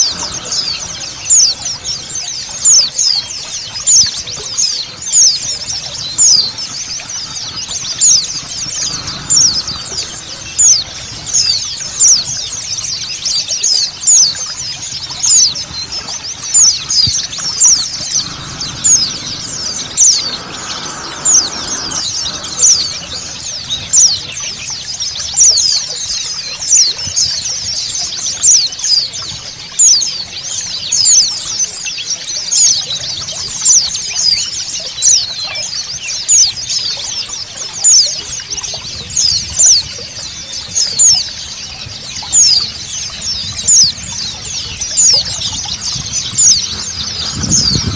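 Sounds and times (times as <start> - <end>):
birds twittering: 0.0 - 47.9
running water: 0.0 - 47.9.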